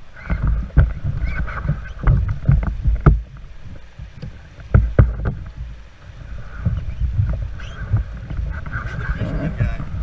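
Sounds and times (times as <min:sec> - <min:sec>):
canoe paddle splashing: 0:00.0 - 0:10.0
rushing water: 0:00.0 - 0:10.0
wind rumble on microphone: 0:00.0 - 0:10.0.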